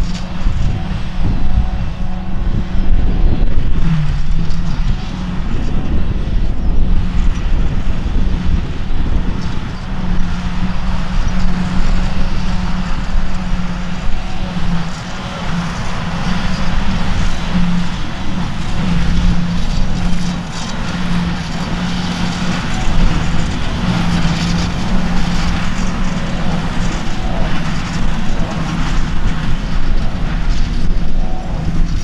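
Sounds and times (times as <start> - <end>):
forage harvester drone: 0.0 - 32.0
wavering machine hum: 0.0 - 32.0.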